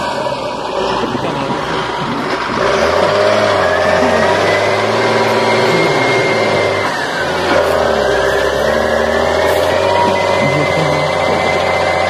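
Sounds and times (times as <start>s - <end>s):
tractor diesel engine running hard: 0.0s - 12.0s.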